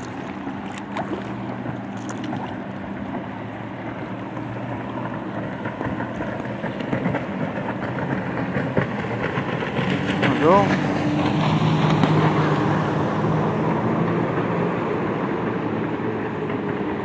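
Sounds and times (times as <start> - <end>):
water lapping against hull: 0.0 - 14.5
jet ski engine droning: 0.0 - 17.0.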